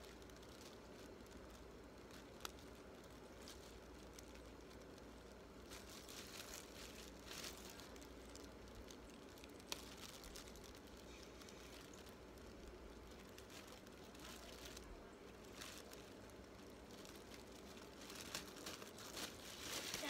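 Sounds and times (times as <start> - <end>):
soft rustling: 0.0 - 20.0.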